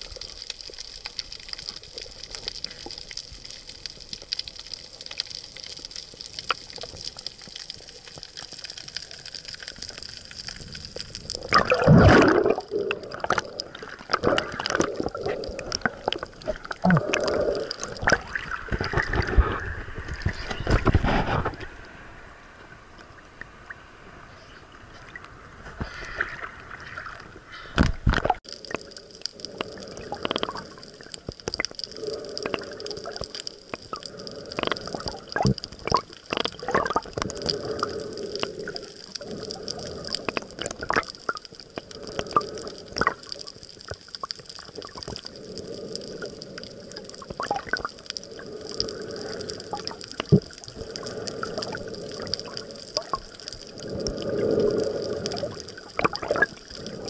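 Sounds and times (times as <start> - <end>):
small sharp clicks and crackles: 0.0 - 22.0, 25.0 - 57.0
water splashing and gurgling: 0.0 - 57.0.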